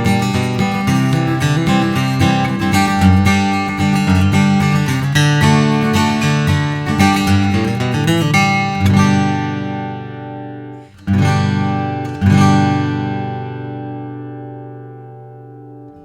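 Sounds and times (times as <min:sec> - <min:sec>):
acoustic guitar chords ringing: 0:00.0 - 0:16.0
acoustic guitar picked notes: 0:00.0 - 0:16.0.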